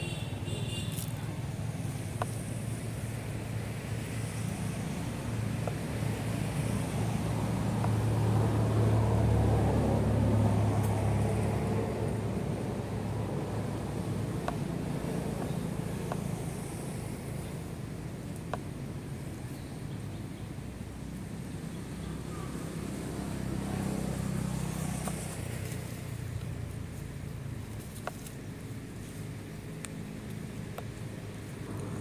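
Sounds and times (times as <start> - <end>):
passing vehicle engine rumble: 0.0 - 32.0.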